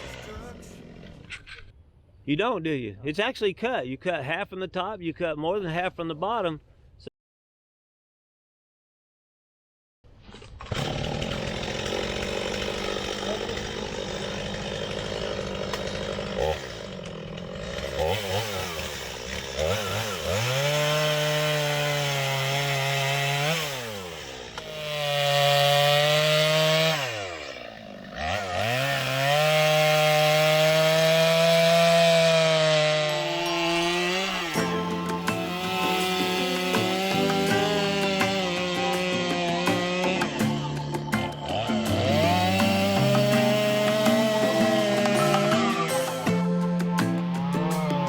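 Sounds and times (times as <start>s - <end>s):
chainsaw cutting wood: 0.0s - 1.5s, 10.3s - 48.0s.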